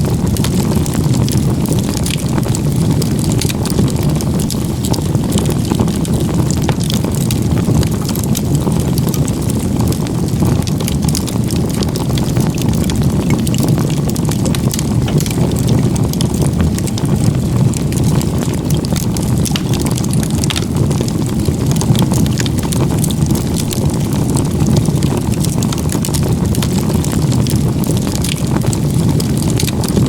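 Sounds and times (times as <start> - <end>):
campfire flames rushing: 0.0 - 30.0
fire crackling and popping: 0.0 - 30.0.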